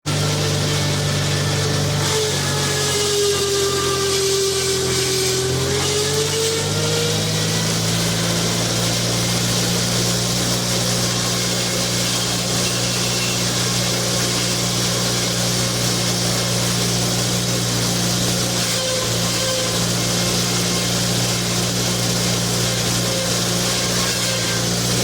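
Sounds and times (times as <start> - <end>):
skid steer engine humming: 0.0 - 25.0.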